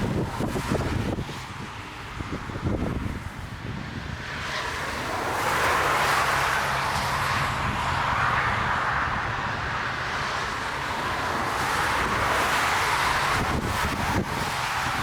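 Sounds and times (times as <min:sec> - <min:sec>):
jet airliner engine rushing: 0:00.0 - 0:15.0
wind buffeting microphone: 0:00.0 - 0:15.0.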